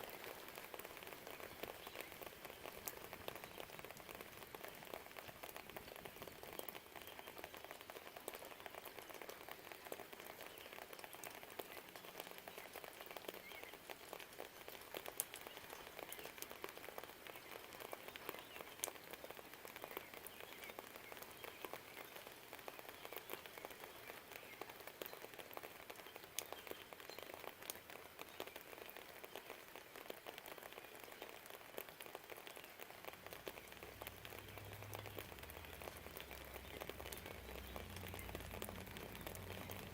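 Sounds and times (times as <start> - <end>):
light rain: 0.0 - 39.9
raindrops ticking sharply: 0.0 - 39.9.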